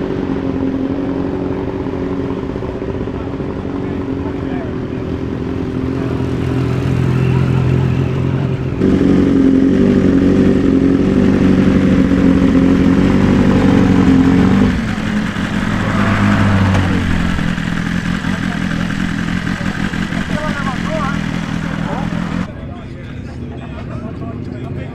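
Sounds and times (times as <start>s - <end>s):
motorcycle engines running loud: 0.0s - 24.9s.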